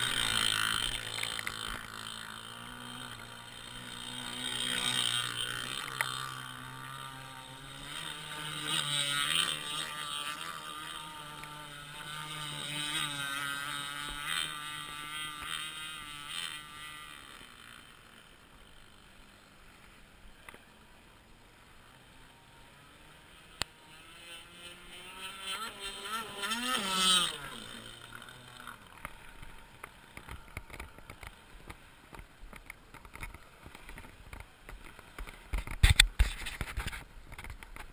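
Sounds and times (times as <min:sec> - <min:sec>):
model boat engine droning: 0:00.0 - 0:37.9.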